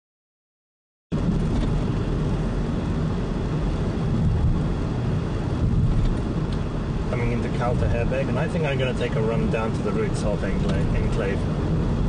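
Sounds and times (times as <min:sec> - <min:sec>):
car engine and road noise: 0:01.1 - 0:12.0.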